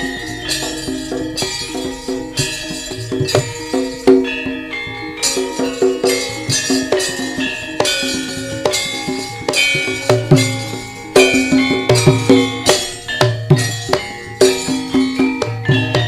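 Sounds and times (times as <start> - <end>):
gamelan ensemble playing: 0.0 - 16.0
sharp drum strokes: 0.0 - 16.0.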